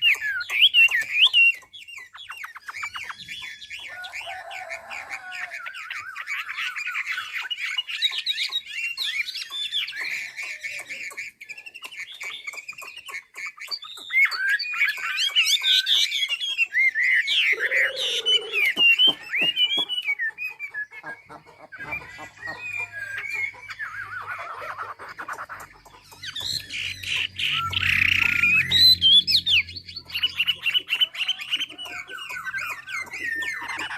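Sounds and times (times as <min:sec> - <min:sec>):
bird warbling song: 0:00.0 - 0:33.9.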